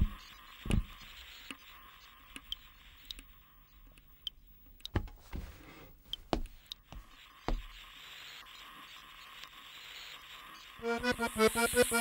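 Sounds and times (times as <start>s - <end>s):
steady soft hiss: 0.0s - 12.0s.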